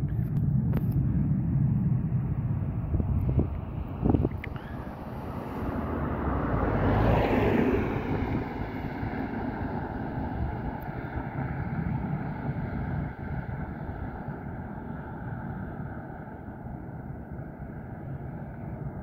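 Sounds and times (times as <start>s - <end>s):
distant engine drone: 0.0s - 19.0s
wind rumble on microphone: 0.0s - 19.0s.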